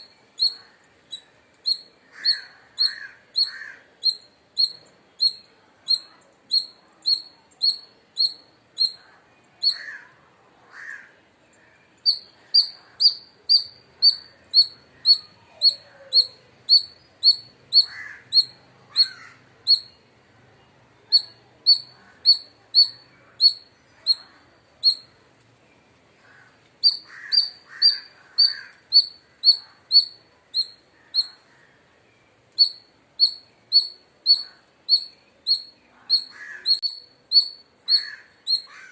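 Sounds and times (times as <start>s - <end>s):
squirrel chirping: 0.0s - 9.9s, 12.0s - 20.0s, 21.0s - 25.2s, 26.8s - 31.5s, 32.5s - 38.9s.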